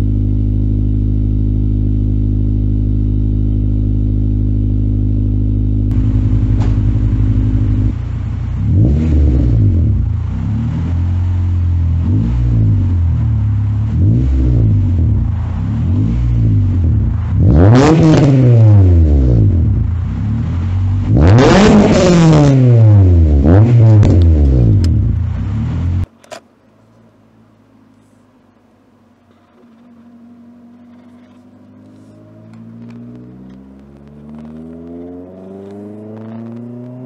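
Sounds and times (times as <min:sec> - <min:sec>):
car engine revving: 0:00.0 - 0:26.1, 0:29.3 - 0:37.0.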